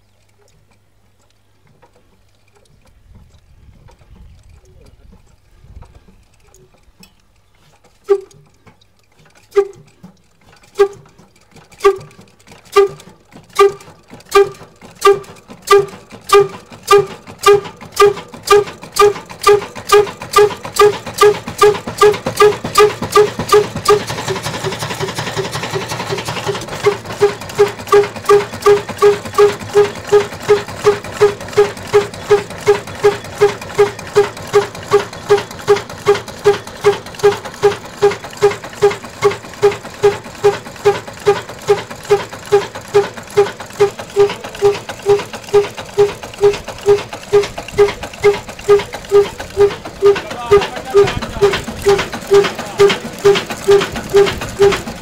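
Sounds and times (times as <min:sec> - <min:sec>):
diesel engine exhaust beats: 0:09.5 - 0:55.0.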